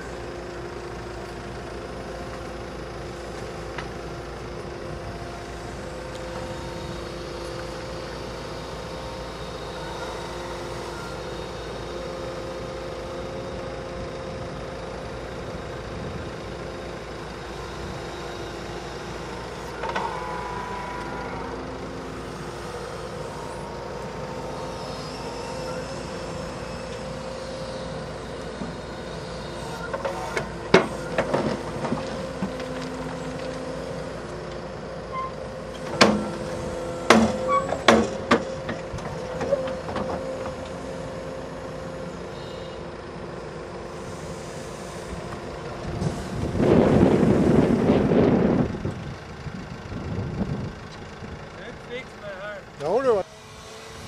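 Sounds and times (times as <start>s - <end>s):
excavator engine humming: 0.0s - 54.0s.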